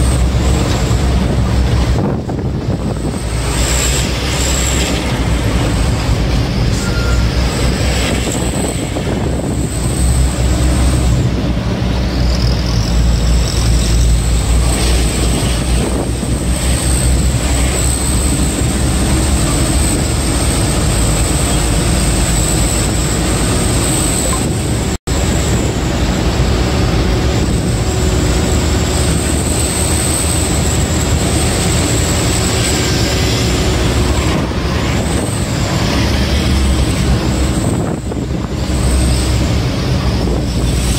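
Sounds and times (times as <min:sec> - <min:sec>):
road noise: 0:00.0 - 0:40.9
truck engine: 0:00.0 - 0:40.9.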